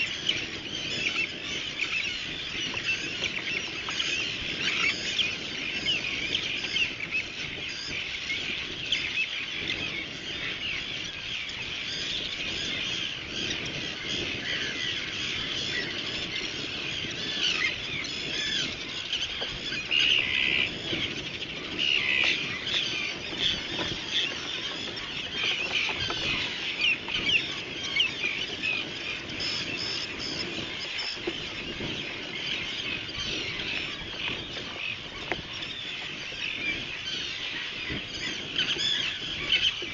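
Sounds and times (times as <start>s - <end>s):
seabirds crying: 0.0s - 39.9s.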